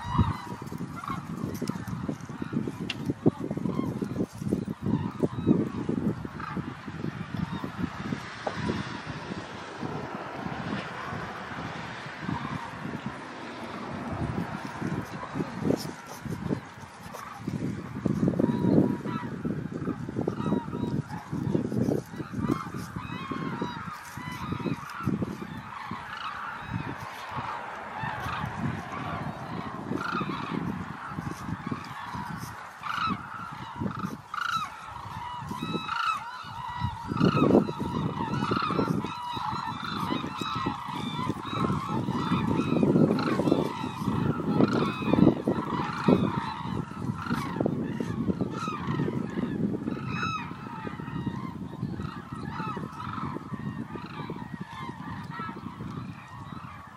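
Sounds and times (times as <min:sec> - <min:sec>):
flock of cranes calling: 0:00.0 - 0:56.9.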